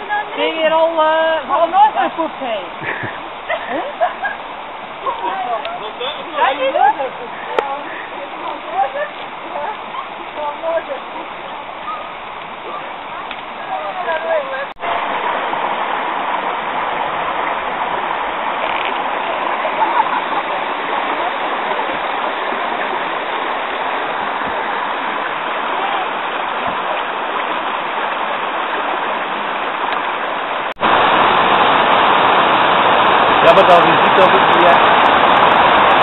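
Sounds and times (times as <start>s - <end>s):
stream water rushing: 0.0s - 36.0s.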